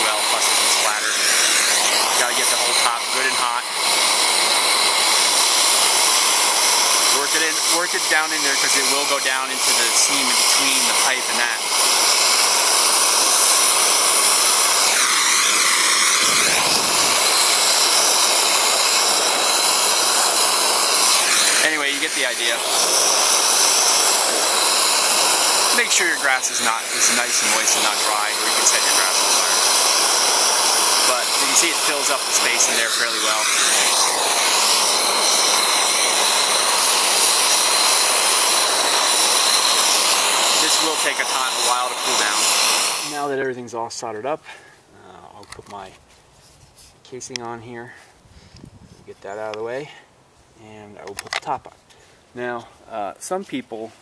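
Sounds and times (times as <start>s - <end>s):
gas torch flame hissing: 0.0s - 44.7s.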